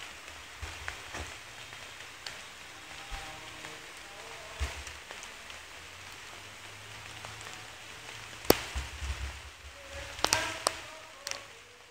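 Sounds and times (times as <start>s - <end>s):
rain on wet ground and foliage: 0.0s - 11.9s.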